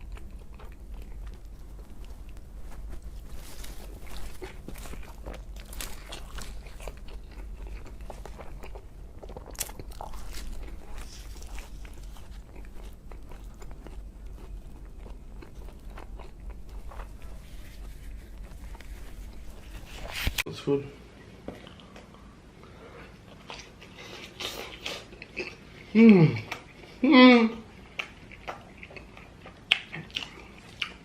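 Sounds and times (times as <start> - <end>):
crunching and chewing: 0.0 - 20.4, 21.6 - 27.0, 27.6 - 31.0.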